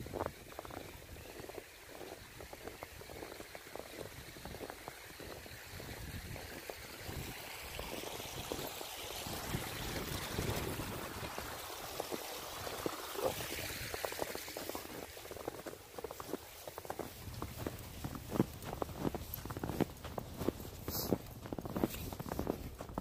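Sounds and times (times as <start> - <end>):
footsteps crunching through snow: 0.0 - 23.0.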